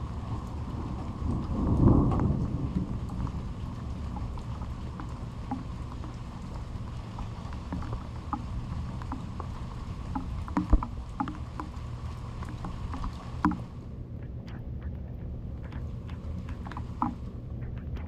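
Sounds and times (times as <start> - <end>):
rain falling: 0.0 - 14.0, 15.4 - 17.6
drips and taps: 0.0 - 18.0
low rumble: 0.0 - 18.0.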